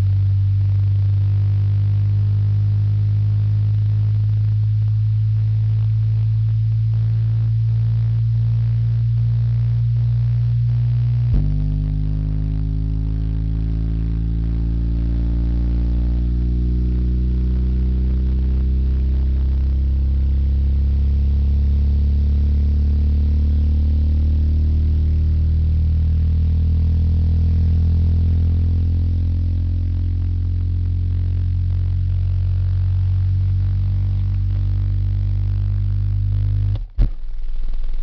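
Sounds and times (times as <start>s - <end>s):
subwoofer playing deep bass tones: 0.0s - 38.0s.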